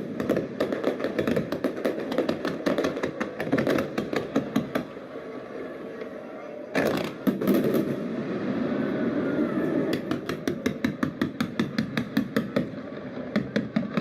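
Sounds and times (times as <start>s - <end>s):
fireworks crackling and popping: 0.0s - 5.0s, 6.7s - 14.0s.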